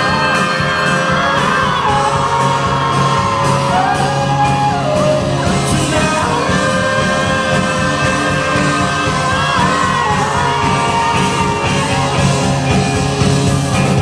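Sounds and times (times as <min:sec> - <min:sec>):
person singing long held notes: 0:00.0 - 0:12.4
live pop-rock band playing: 0:00.0 - 0:14.0.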